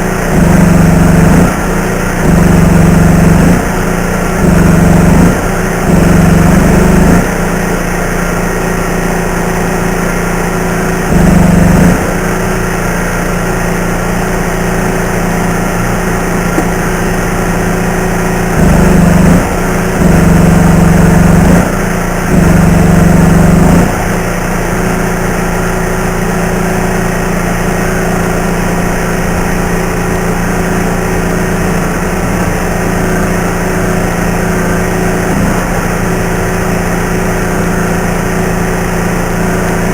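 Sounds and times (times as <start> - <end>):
welding machine hum: 0.0 - 39.9.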